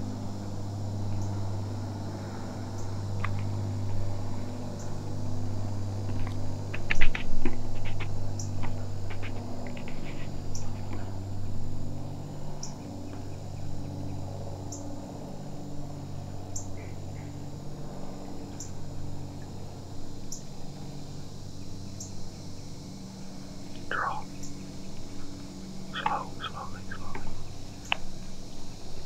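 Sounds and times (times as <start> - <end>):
insect chirping: 0.0 - 29.0
low steady hum: 0.0 - 29.0.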